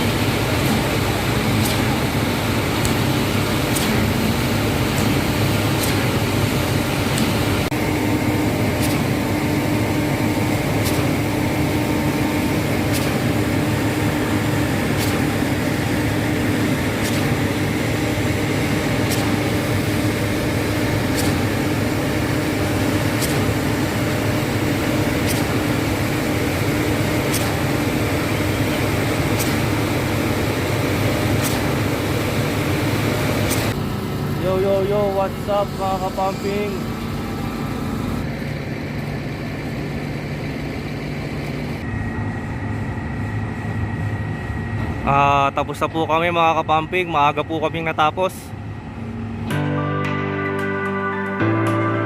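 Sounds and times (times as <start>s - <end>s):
concrete pump mechanical drone: 0.0s - 49.6s.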